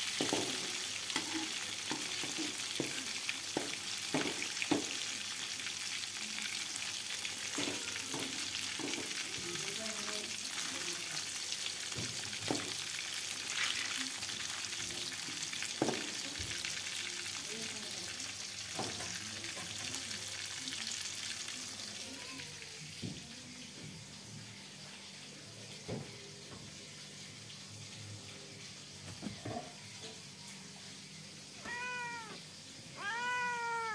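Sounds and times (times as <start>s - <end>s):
fish sizzling in hot oil: 0.0s - 33.9s.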